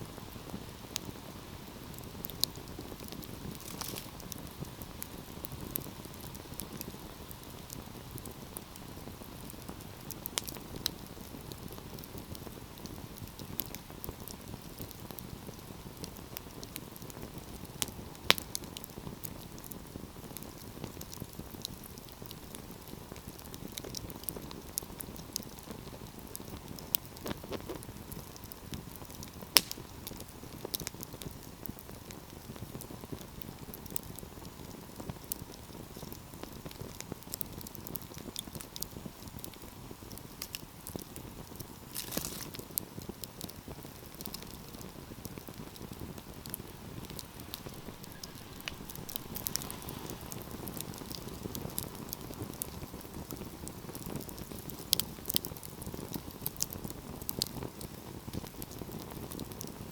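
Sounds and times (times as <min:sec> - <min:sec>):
low rush of flames: 0:00.0 - 0:59.9
wood fire crackling and popping: 0:00.1 - 0:59.9.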